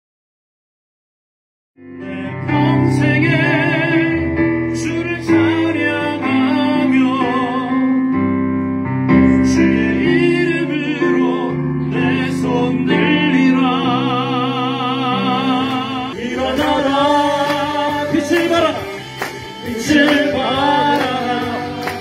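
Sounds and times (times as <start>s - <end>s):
digital piano chords: 1.8s - 22.0s
man singing into a microphone: 1.9s - 8.1s, 9.2s - 22.0s.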